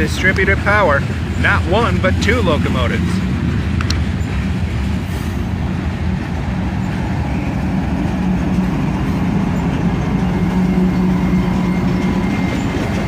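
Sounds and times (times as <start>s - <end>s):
diesel locomotives passing: 0.0s - 13.0s.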